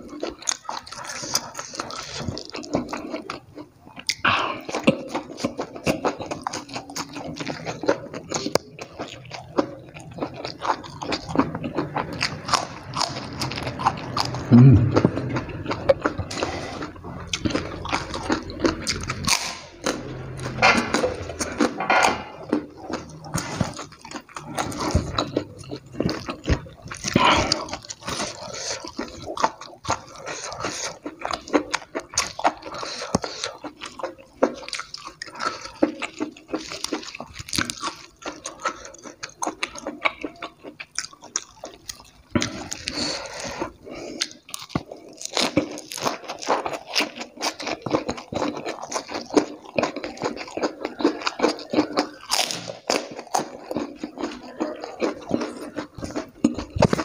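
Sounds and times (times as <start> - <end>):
crunching crackles: 0.0 - 57.0
man chewing crispy food: 0.0 - 57.0.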